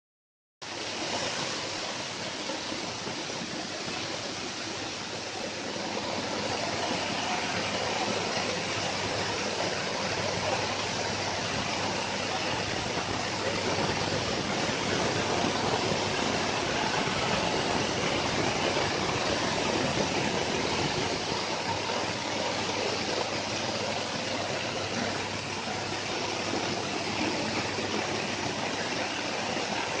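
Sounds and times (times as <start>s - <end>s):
coffee huller running: 1.0s - 30.0s.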